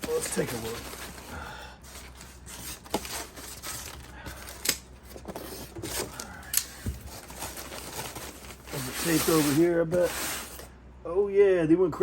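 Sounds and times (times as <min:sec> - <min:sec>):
packaging rustling and scraping: 0:00.0 - 0:10.7.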